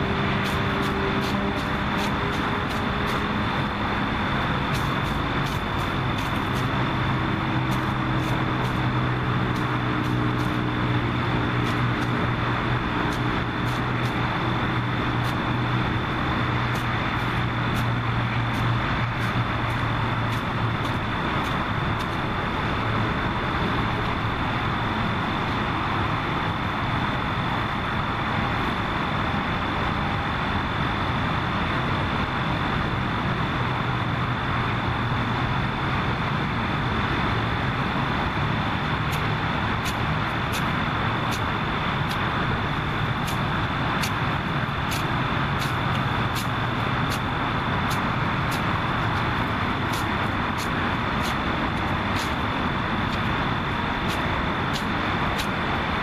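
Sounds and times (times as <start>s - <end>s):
faint high steady whine: 0.0s - 56.0s
low motor hum: 0.0s - 56.0s.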